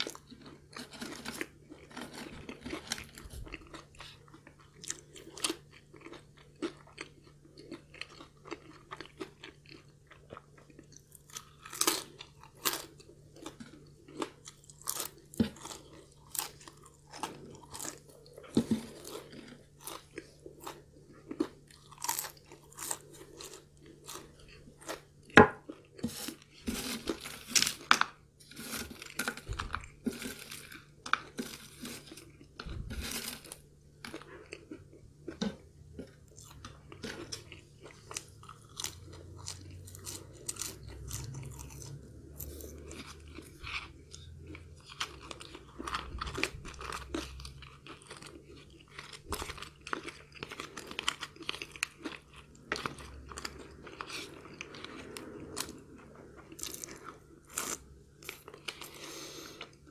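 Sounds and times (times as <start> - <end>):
chewing crispy fries: 0.0 - 59.9
faint low hum: 0.0 - 59.9.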